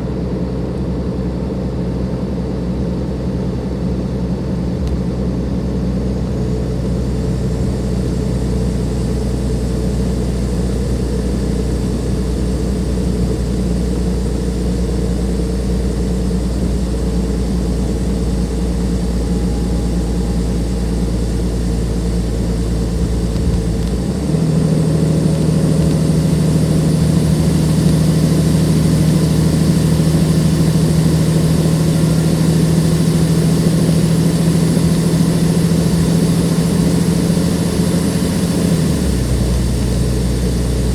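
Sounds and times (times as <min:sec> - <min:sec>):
bus diesel engine humming: 0:00.0 - 0:40.9.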